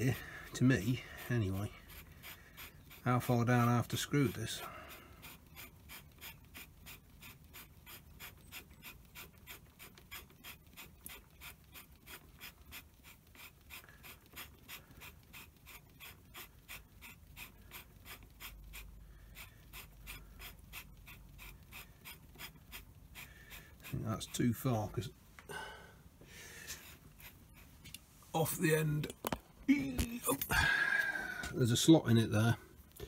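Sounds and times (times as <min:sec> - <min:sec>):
fingers scratching knurled screw: 0:00.0 - 0:25.1, 0:26.6 - 0:30.5.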